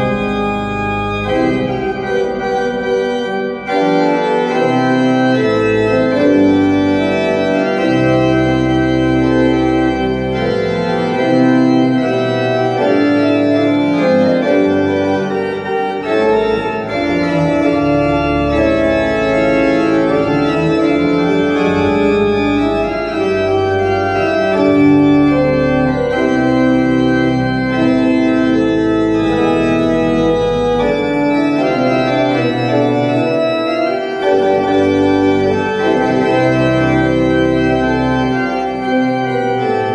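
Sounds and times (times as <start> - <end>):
deep organ pedal bass notes: 0.0 - 39.9
pipe organ playing a hymn: 0.0 - 39.9.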